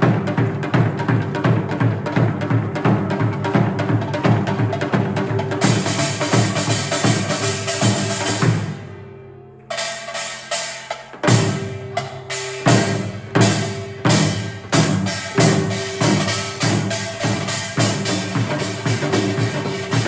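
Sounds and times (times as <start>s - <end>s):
drum and woodblock hits: 0.0s - 8.7s, 9.7s - 20.0s.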